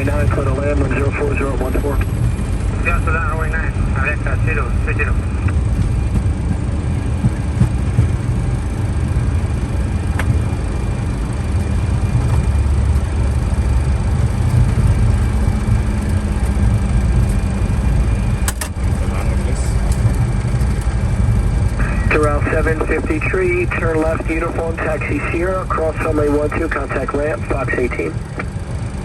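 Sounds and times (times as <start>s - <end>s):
airliner cockpit rumble: 0.0s - 29.0s.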